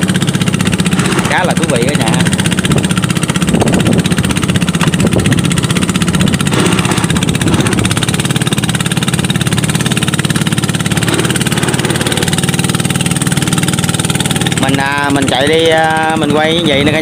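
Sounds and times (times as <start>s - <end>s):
outboard engine running: 0.0s - 17.0s.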